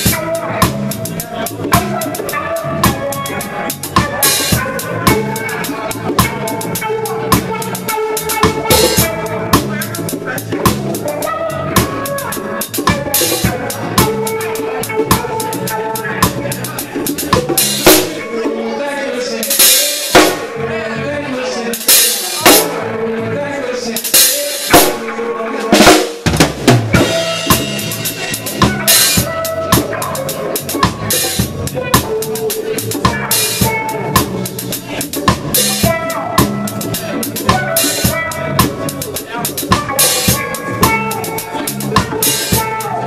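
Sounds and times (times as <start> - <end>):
bass drum: 0.0 - 18.2, 20.1 - 20.6, 24.7 - 25.1, 25.8 - 43.0
live reggae band: 0.0 - 43.0.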